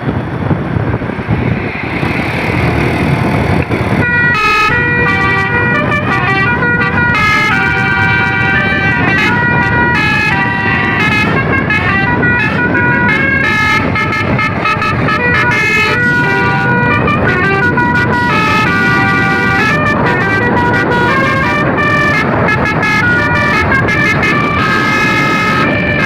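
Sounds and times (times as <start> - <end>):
steady low rumble: 0.0 - 26.0
musical bus horn playing a tune: 4.0 - 26.0.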